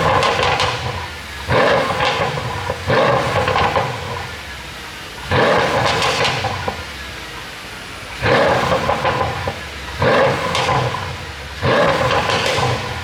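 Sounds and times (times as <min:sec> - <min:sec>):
exhaust pops and crackles: 0:00.0 - 0:04.6, 0:05.2 - 0:07.1, 0:08.2 - 0:13.0
car engine revving: 0:00.0 - 0:13.0.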